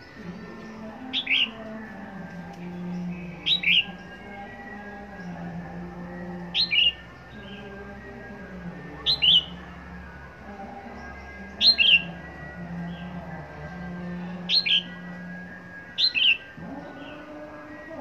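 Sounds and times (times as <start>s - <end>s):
bird singing warbled phrases: 0.0s - 18.0s.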